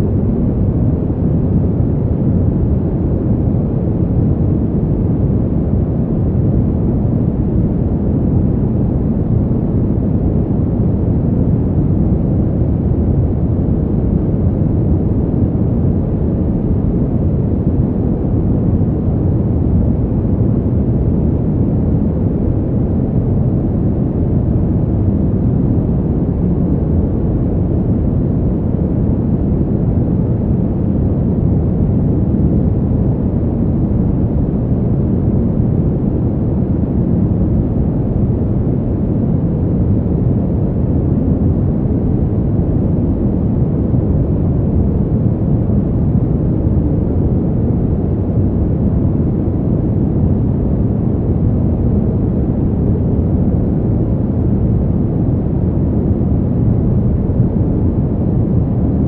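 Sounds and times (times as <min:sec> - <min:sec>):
low muffled wind rumble: 0:00.0 - 0:59.0.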